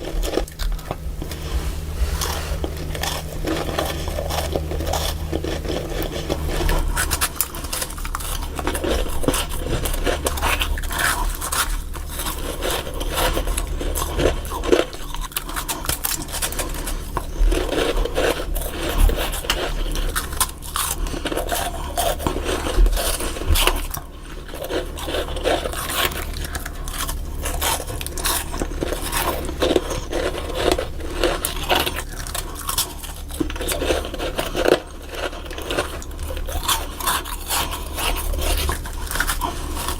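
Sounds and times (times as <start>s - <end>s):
chewing crunchy frost: 0.0s - 39.9s
low steady hum: 0.0s - 39.9s.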